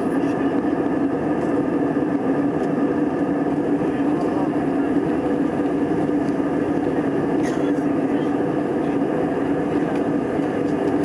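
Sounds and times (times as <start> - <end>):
constant low hum: 0.0 - 11.0
jet engine and airflow noise: 0.0 - 11.0.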